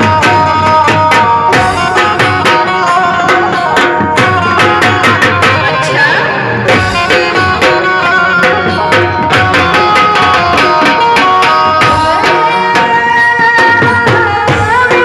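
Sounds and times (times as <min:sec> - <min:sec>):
barrel drums beaten fast: 0:00.0 - 0:05.8, 0:06.6 - 0:15.0.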